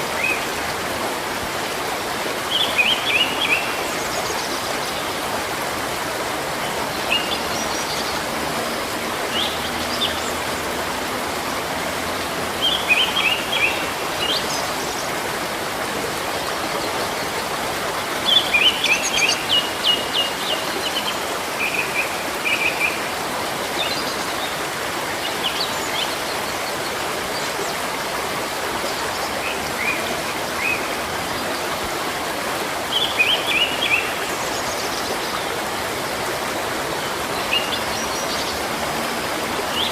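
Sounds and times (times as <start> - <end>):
stream water rushing: 0.0 - 39.9
songbirds chirping: 1.4 - 39.9.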